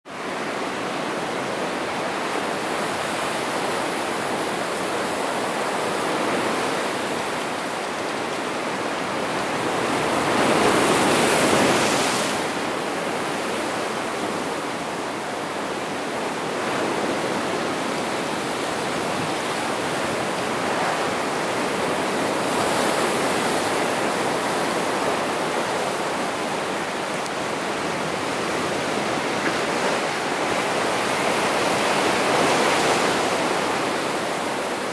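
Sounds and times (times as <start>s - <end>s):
ocean surf breaking on rocks: 0.2s - 34.9s.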